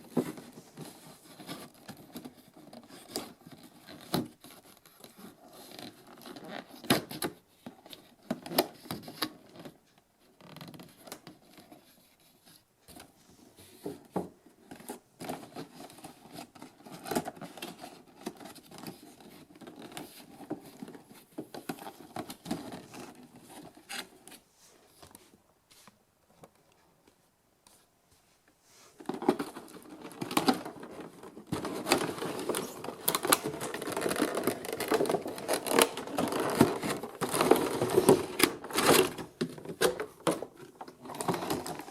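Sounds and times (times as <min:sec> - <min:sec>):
cardboard and plastic rustling: 0:00.0 - 0:26.8, 0:28.8 - 0:41.9.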